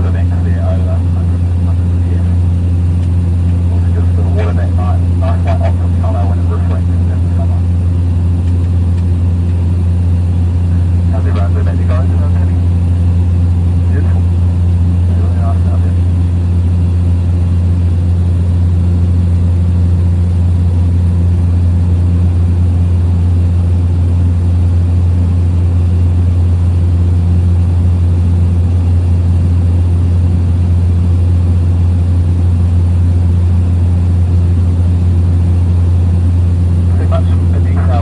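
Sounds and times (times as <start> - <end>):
small plane engine droning: 0.0 - 38.0.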